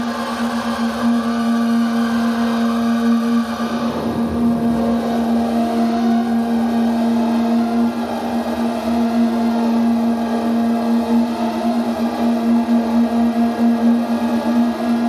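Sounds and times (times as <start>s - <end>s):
pitched room resonance drone: 0.0s - 15.0s.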